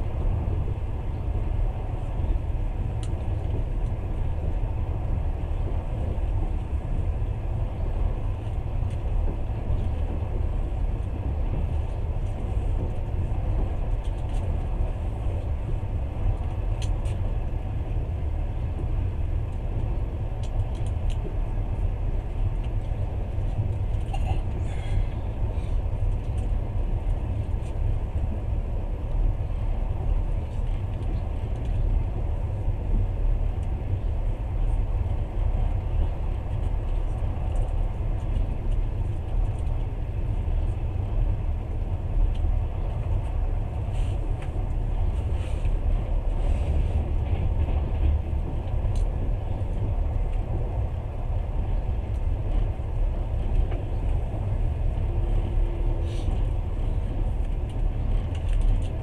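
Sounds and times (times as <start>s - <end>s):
train rumbling at speed: 0.0s - 59.0s.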